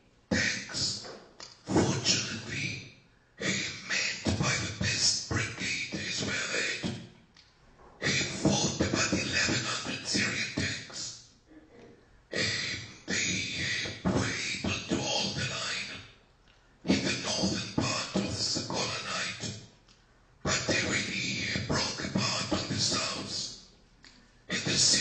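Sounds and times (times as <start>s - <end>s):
person speaking: 0.0s - 2.8s, 3.4s - 7.0s, 7.8s - 16.0s, 16.9s - 19.6s, 20.5s - 23.6s, 24.5s - 25.0s.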